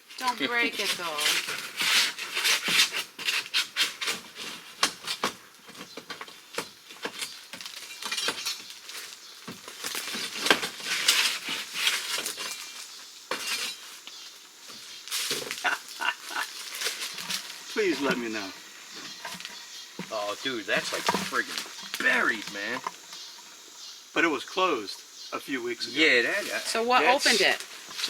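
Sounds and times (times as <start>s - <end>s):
rustling: 0.0s - 23.8s, 25.8s - 28.0s.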